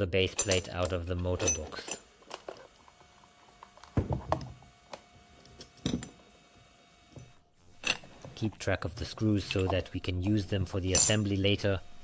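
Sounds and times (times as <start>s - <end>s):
sharp knocks and clicks of parts: 0.3s - 6.2s, 7.2s - 12.0s.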